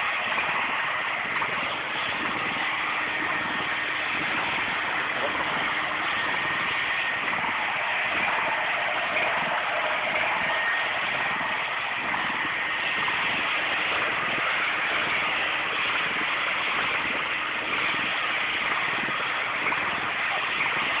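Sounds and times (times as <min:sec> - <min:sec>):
pressure washer running: 0:00.0 - 0:21.0.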